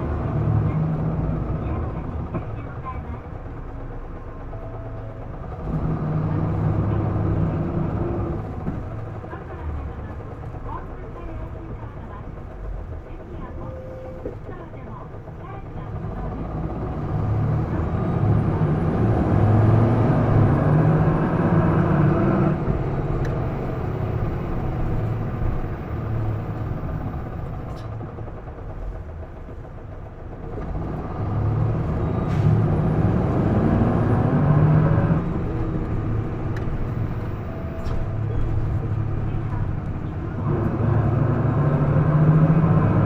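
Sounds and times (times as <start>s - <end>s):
bus diesel engine revving: 0.0s - 13.1s, 14.2s - 43.0s.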